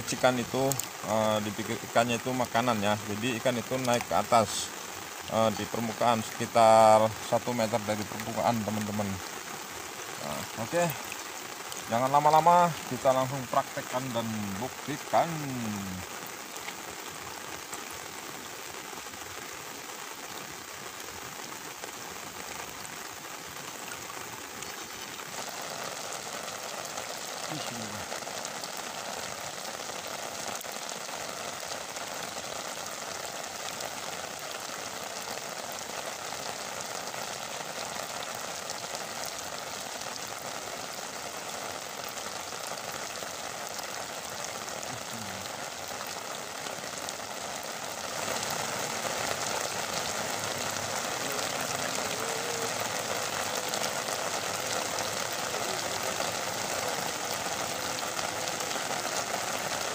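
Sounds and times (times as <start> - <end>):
heavy rain on water: 0.0 - 59.9.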